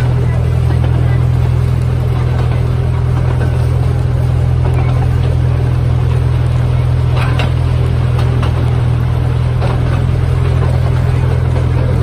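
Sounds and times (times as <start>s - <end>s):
train engine drone: 0.0s - 12.0s
train wheels rumbling on rails: 0.0s - 12.0s.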